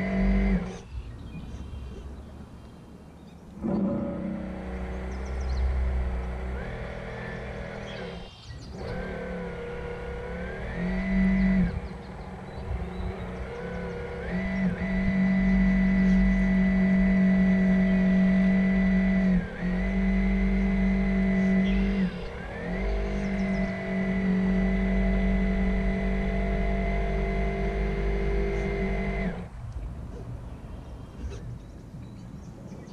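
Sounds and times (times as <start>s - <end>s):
electric motor whining: 0.0s - 0.9s, 3.6s - 29.6s.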